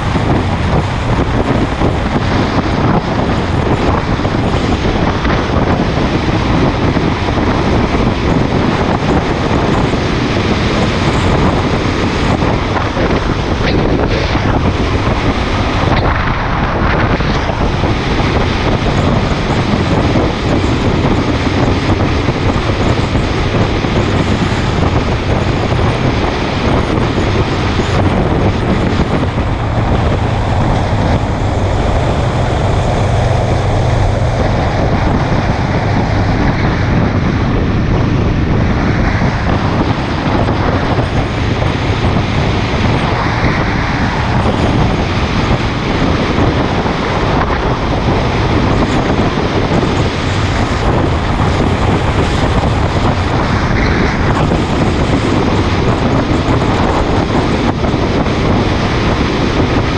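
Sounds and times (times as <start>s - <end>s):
motorcycle engine: 0.0s - 59.0s
wind rushing over microphone: 0.0s - 59.9s.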